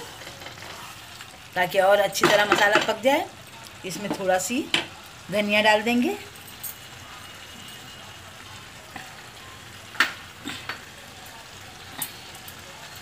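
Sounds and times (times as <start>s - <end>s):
food bubbling and sizzling in pan: 0.0s - 13.0s.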